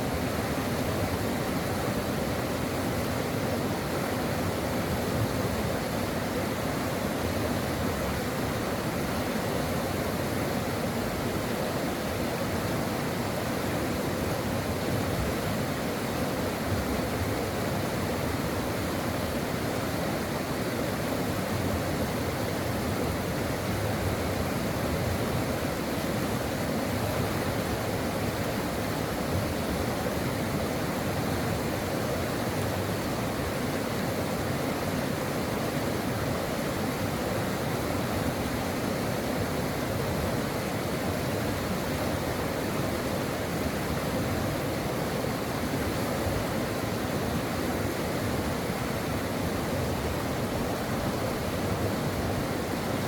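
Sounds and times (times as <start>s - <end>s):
stream flowing over rocks: 0.0s - 53.0s.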